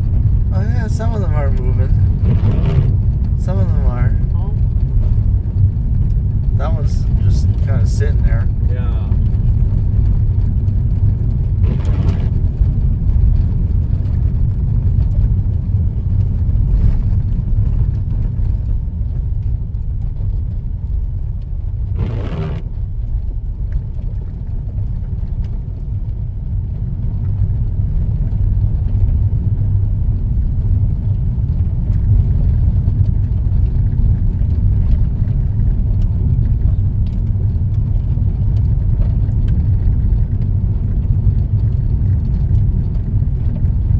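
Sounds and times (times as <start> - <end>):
road and engine noise: 0.0 - 43.9.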